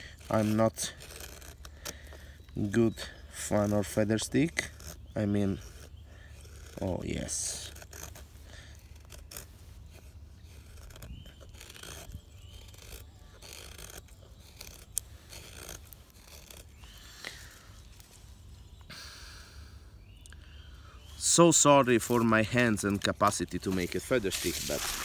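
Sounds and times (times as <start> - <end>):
knife scraping wooden stick: 0.0 - 18.8, 21.2 - 25.0.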